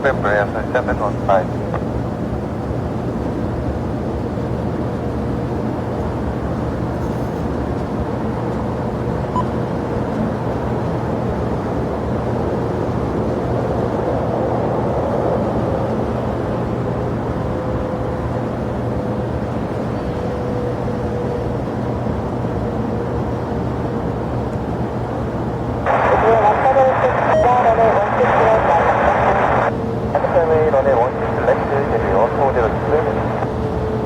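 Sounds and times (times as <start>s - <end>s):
jet engines droning: 0.0s - 34.0s.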